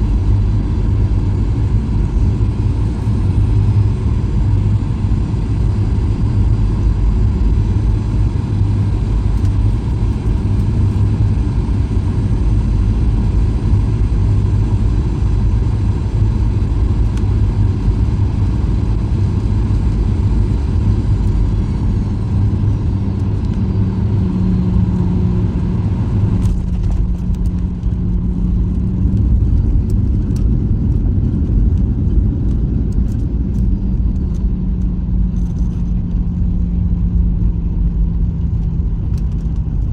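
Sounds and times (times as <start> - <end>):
jet engine whine falling in pitch: 0.0 - 32.0
low steady hum: 0.0 - 39.9
wheels and engines rumbling: 0.0 - 39.9.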